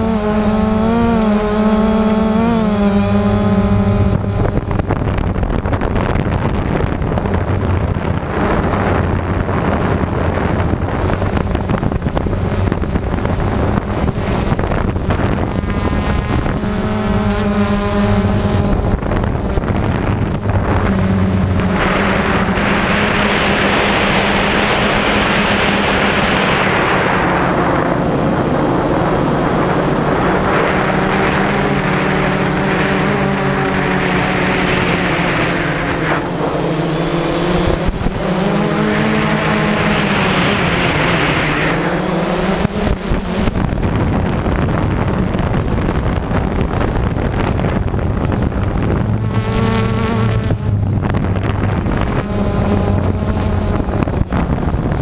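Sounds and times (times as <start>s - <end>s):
broad rushing noise: 0.0s - 55.0s
drone propellers buzzing: 0.0s - 55.0s.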